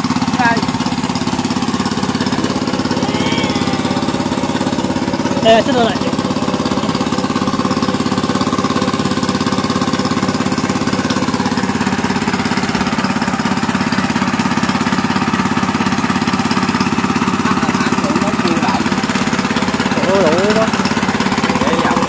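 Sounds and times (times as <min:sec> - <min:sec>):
small engine chugging: 0:00.0 - 0:22.0.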